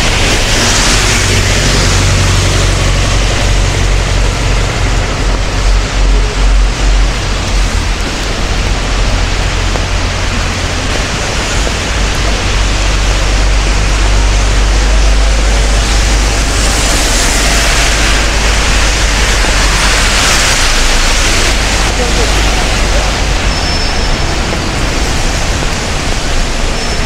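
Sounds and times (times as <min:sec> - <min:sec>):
heavy rain hiss: 0:00.0 - 0:27.0
low rumble: 0:00.0 - 0:27.0
traffic on wet street: 0:00.0 - 0:27.0.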